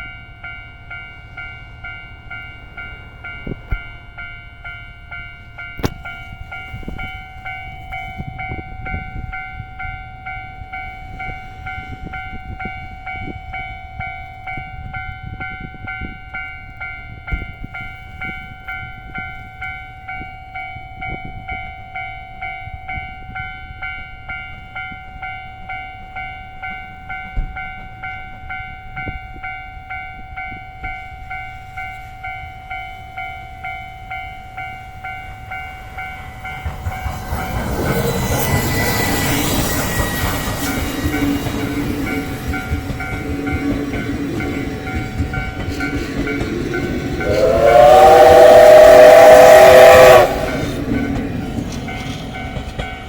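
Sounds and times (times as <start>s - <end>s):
train wheels rumbling on rails: 0.0s - 25.4s, 26.1s - 53.0s.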